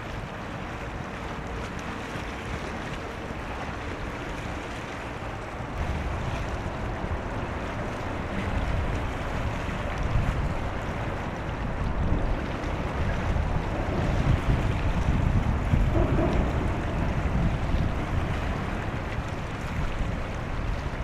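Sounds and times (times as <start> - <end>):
sea water washing: 0.0 - 21.0
wind buffeting microphone: 0.0 - 21.0.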